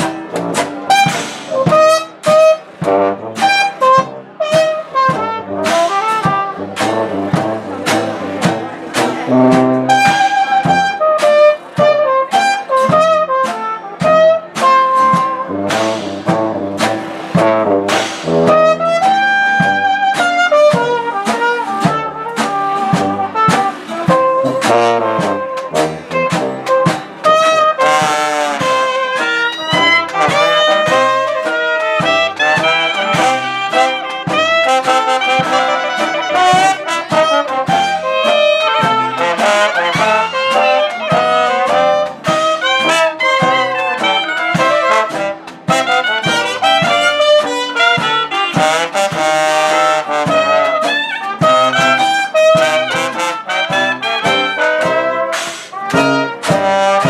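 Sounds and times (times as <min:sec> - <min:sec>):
jazz band playing: 0:00.0 - 0:57.0.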